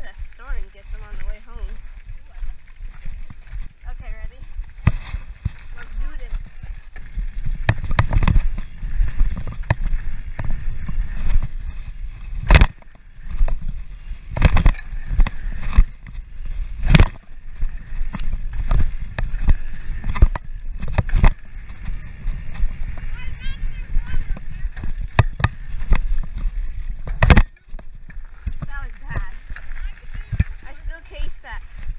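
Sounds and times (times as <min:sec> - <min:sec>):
bike knocks and rattles: 0:00.0 - 0:31.9
bike tyres rumbling on dirt: 0:00.0 - 0:31.9
wind buffeting microphone: 0:04.4 - 0:31.9.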